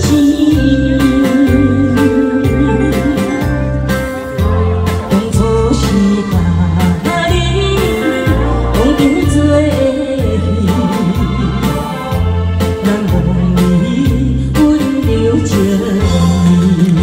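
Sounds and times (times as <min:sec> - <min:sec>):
repeating bass line: 0:00.0 - 0:14.5
keyboard: 0:00.0 - 0:17.0
person singing: 0:00.0 - 0:17.0.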